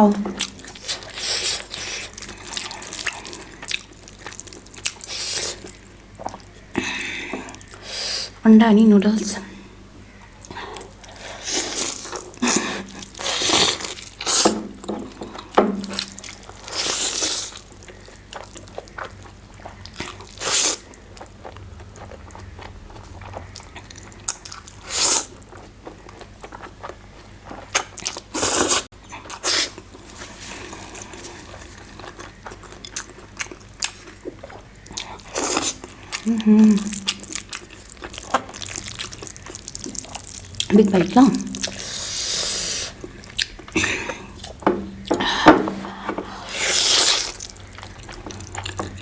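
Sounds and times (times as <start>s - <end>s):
biting and chewing noodles: 0.4s - 6.6s, 10.4s - 40.7s, 41.5s - 49.0s.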